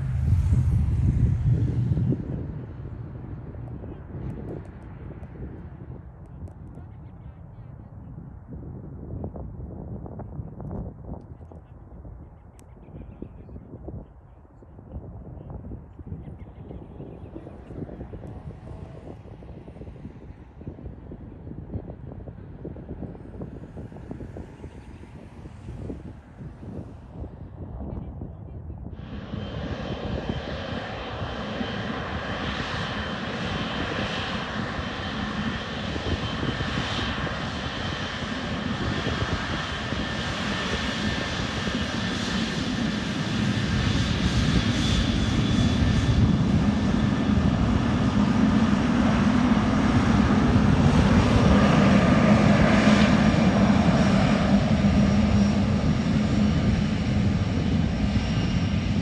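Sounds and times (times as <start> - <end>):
jet engines at takeoff power: 0.0 - 59.0.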